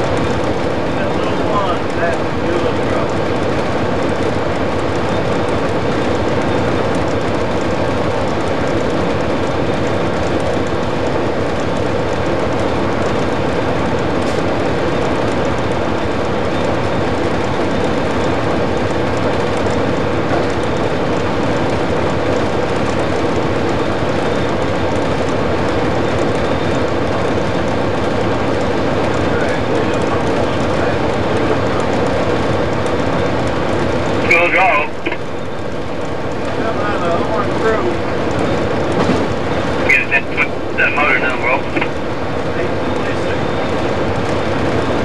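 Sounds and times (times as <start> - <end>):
locomotive cab running drone: 0.0 - 45.0.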